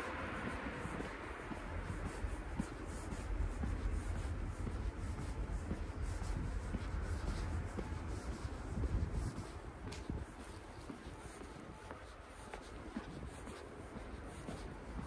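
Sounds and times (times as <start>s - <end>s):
footsteps on pavement: 0.0s - 15.0s
wind on microphone: 0.0s - 15.0s.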